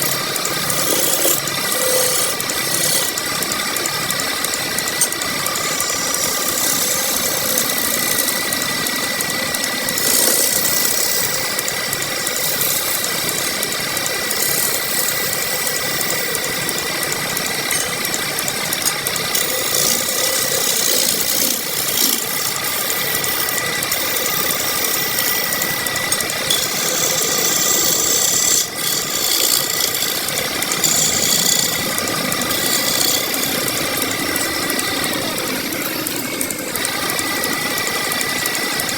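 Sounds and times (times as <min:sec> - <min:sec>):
tool scraping and rattling wood: 0:00.0 - 0:37.5
power tool motor whine: 0:00.0 - 0:38.9.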